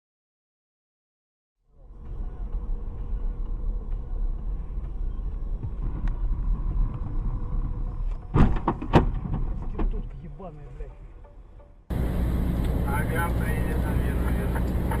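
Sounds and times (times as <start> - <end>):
car driving rumble: 1.7 - 15.0.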